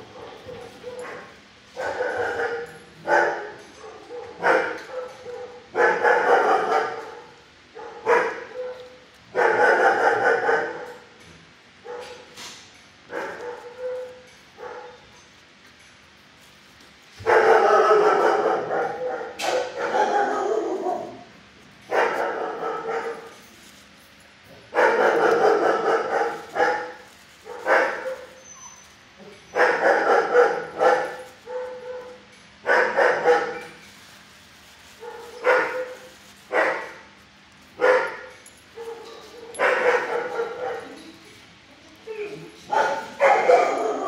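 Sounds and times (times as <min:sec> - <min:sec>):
dogs barking: 0:00.0 - 0:11.1, 0:11.8 - 0:12.4, 0:13.1 - 0:15.2, 0:17.2 - 0:23.4, 0:24.5 - 0:28.5, 0:29.4 - 0:33.8, 0:35.0 - 0:37.2, 0:37.8 - 0:41.3, 0:42.0 - 0:44.0.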